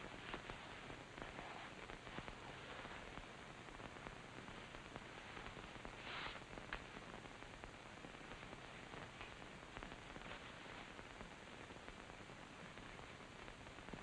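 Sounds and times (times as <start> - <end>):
film soundtrack hiss and crackles: 0.0 - 14.0
soft rustle: 0.0 - 14.0.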